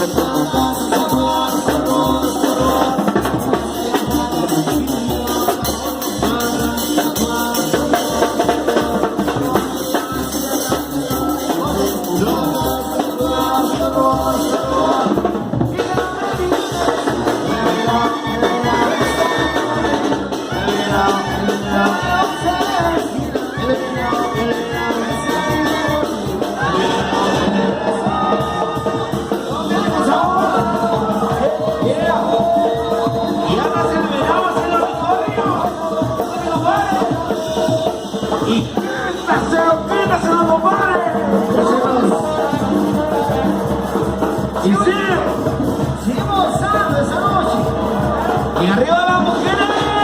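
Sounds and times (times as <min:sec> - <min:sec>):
latin dance music with singing: 0:00.0 - 0:50.0
steady drum beat: 0:00.0 - 0:50.0.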